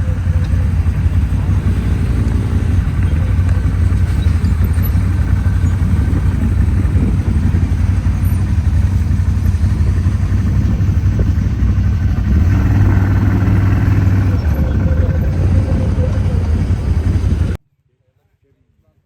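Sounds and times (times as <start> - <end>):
road or wind noise: 0.0 - 17.6
vehicle engine droning: 0.0 - 17.6.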